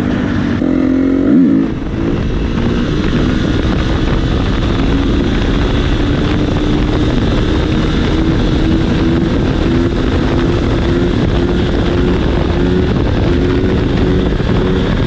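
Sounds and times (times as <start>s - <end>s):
constant rush of noise: 0.0s - 15.0s
dirt bike engine running: 0.0s - 15.0s.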